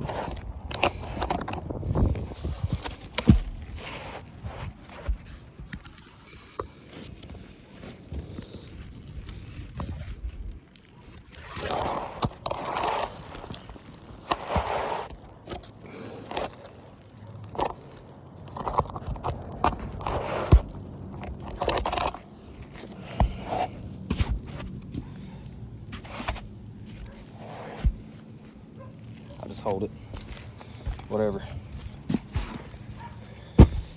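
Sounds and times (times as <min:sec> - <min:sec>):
scraping on roof shingles: 0:00.0 - 0:33.9.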